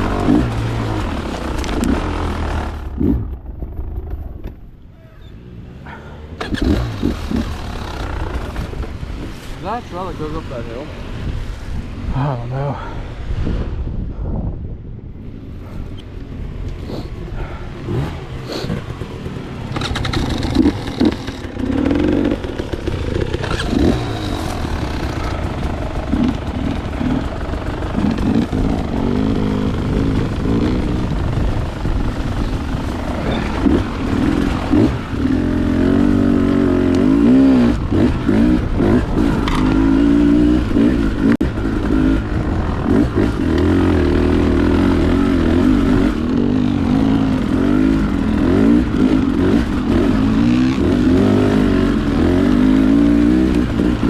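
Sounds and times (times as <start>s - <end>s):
dirt bike engine revving: 0.0s - 3.3s, 5.3s - 9.8s, 16.9s - 54.0s.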